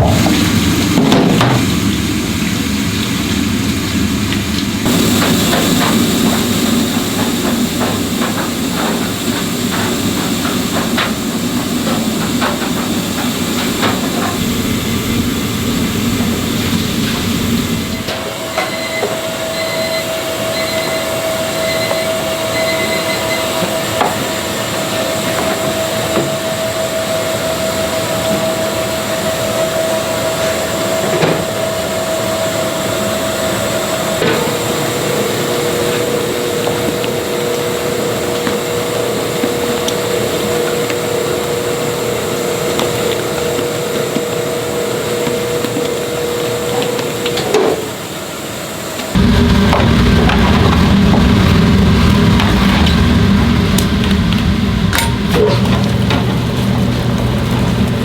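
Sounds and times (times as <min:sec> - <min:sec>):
machine running with whine: 0:00.0 - 0:58.0.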